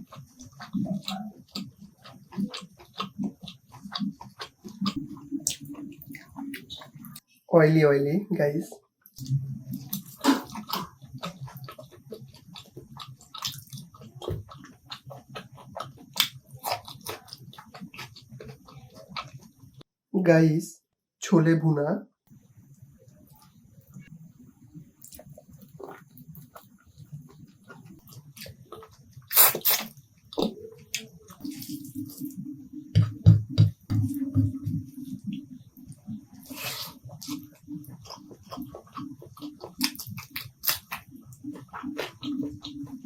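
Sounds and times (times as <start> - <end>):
person chewing food: 0.0 - 7.2, 9.1 - 19.8, 23.1 - 43.0
wet squelching eating sounds: 0.0 - 7.2, 9.2 - 19.8, 24.9 - 43.0.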